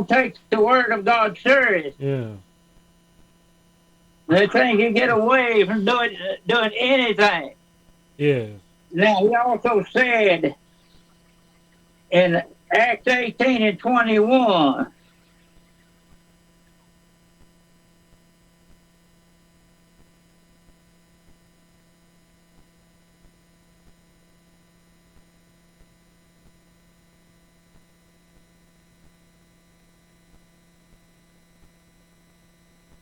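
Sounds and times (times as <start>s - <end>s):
faint electrical mains hum: 0.0s - 33.0s.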